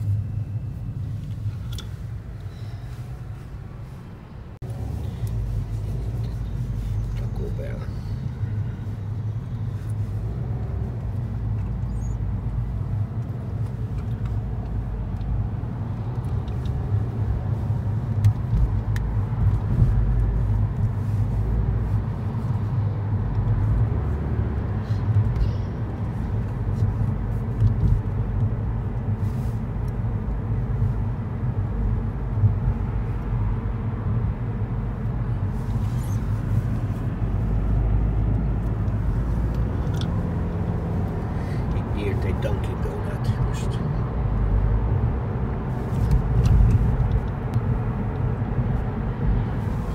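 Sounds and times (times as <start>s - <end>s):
car cabin road rumble: 0.0s - 49.9s.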